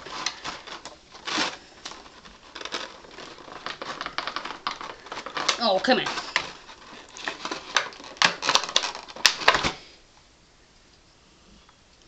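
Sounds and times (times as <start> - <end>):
plastic packaging tray crackling: 0.0 - 9.9.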